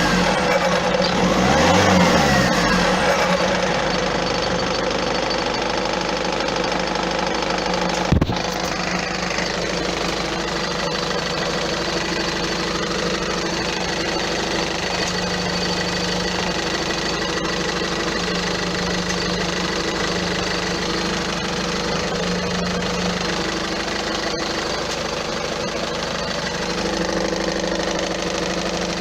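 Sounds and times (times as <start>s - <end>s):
diesel engine idling with rattle: 0.0s - 29.0s.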